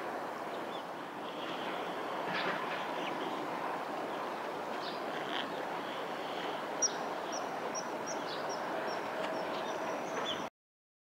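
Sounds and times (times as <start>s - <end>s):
distant traffic: 0.0s - 10.5s.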